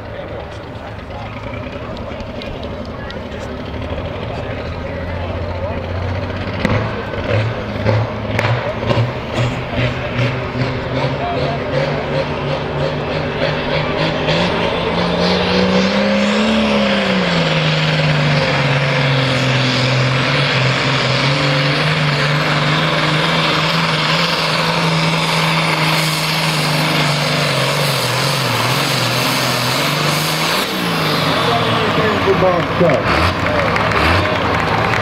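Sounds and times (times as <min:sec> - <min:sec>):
tractor diesel engine at full power: 0:00.0 - 0:35.0.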